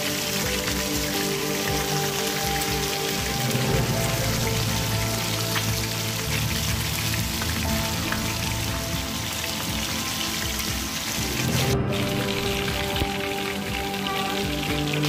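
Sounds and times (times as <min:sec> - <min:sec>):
background music: 0:00.0 - 0:15.0
fish sizzling in hot oil: 0:00.0 - 0:15.0.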